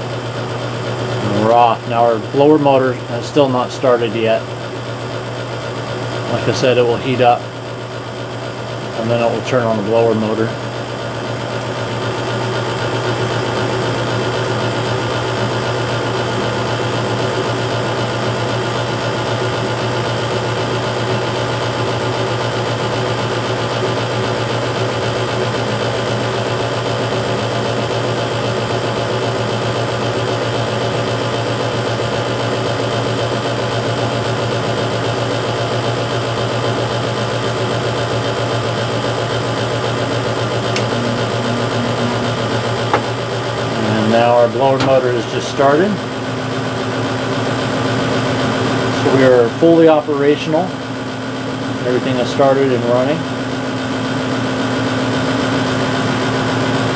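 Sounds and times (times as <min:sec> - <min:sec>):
furnace humming: 0:00.0 - 0:56.9.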